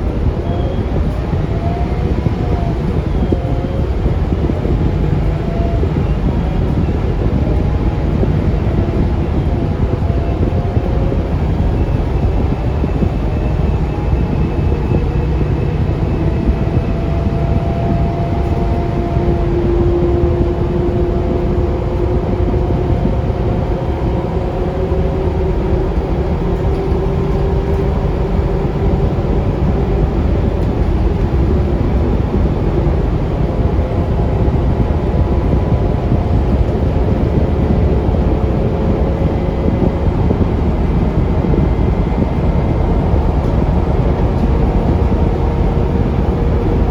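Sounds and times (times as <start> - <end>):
bus engine rumbling: 0.0 - 46.9
faint whining tones: 0.0 - 46.9.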